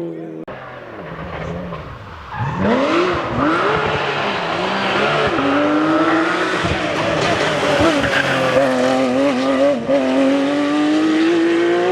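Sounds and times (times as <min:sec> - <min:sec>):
rally car engine revving: 0:00.5 - 0:11.9.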